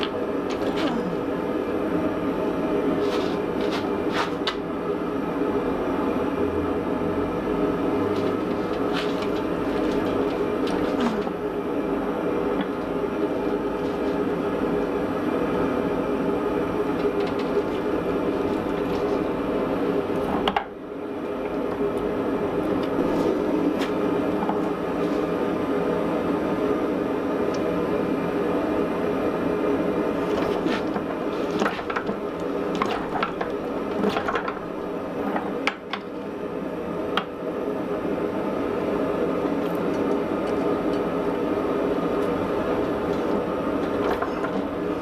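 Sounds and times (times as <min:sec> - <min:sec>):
forging press humming: 0:00.0 - 0:45.0.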